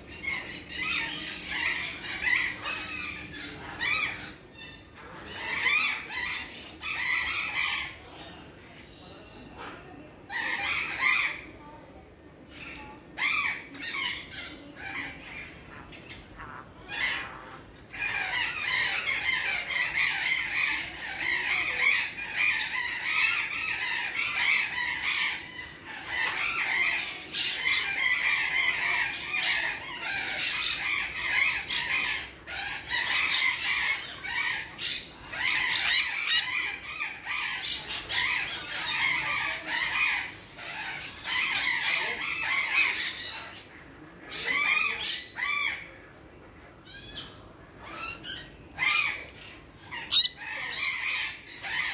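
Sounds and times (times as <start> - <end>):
parrots screeching and squawking: 0.0 - 11.8, 12.5 - 51.9.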